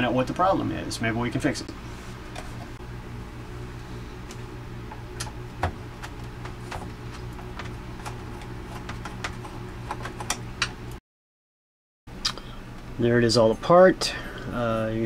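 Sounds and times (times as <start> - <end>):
low electrical hum: 0.0 - 11.0, 12.1 - 15.0.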